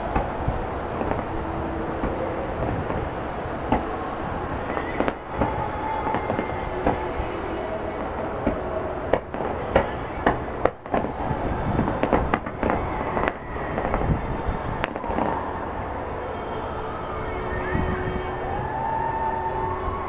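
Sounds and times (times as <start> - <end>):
fireworks bangs and crackling: 0.0 - 16.6
steady background rumble: 0.0 - 20.0.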